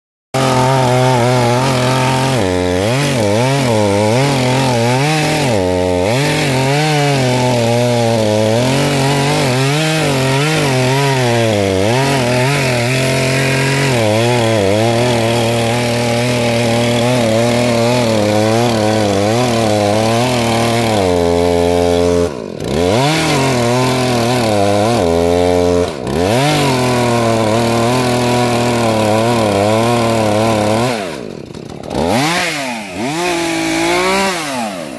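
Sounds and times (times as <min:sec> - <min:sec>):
chainsaw cutting tree trunk: 0:00.3 - 0:34.9.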